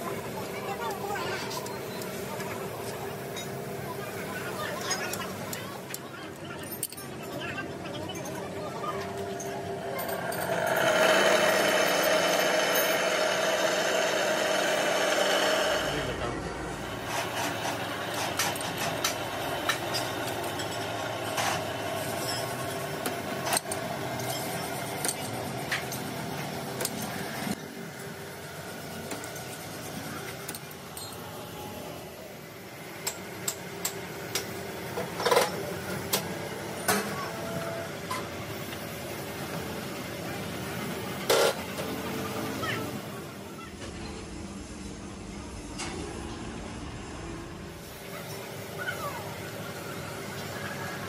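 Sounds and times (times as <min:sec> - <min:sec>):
metal-working machinery humming: 0:00.0 - 0:51.0.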